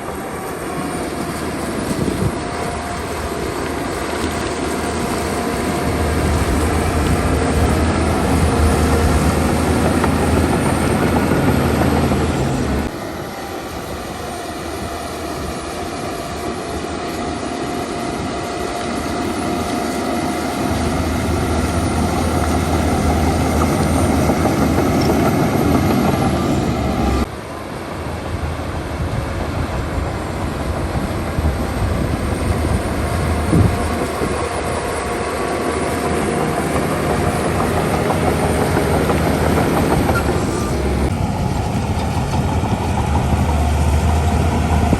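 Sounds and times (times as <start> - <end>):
diesel engines droning: 0.0 - 44.9.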